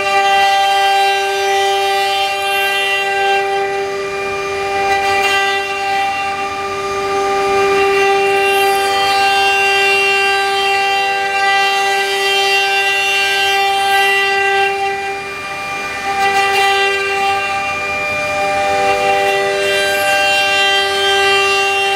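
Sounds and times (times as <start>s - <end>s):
machine spindle whining: 0.0s - 21.9s.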